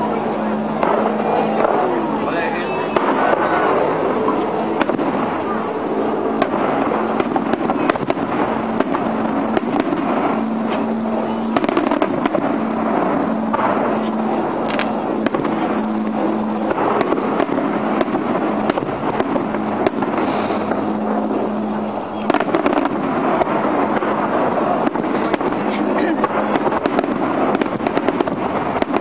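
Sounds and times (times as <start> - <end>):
fireworks bangs and crackles: 0.0 - 29.0
low hum: 0.0 - 29.0
noisy rumble: 0.0 - 29.0.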